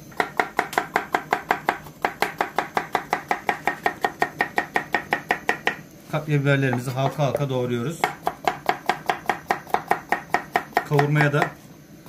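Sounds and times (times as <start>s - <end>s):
knife chopping on wooden board: 0.1s - 5.8s, 6.7s - 11.6s.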